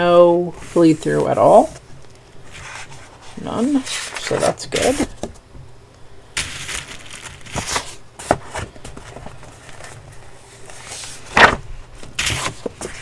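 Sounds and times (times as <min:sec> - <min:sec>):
paper pages rustling: 0:00.5 - 0:05.4, 0:06.4 - 0:13.0.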